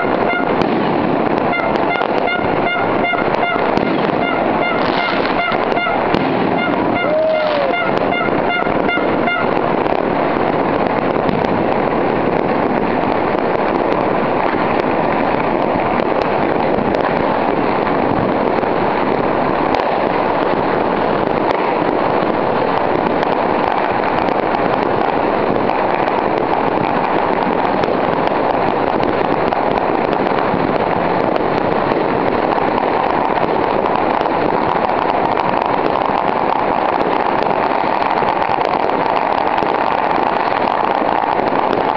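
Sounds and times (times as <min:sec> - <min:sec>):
firecrackers and fireworks popping: 0:00.0 - 0:41.9.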